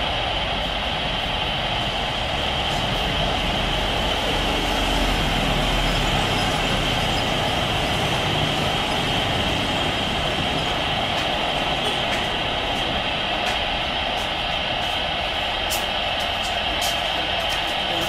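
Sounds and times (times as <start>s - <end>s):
jet engines of landing airliner: 0.0s - 18.0s.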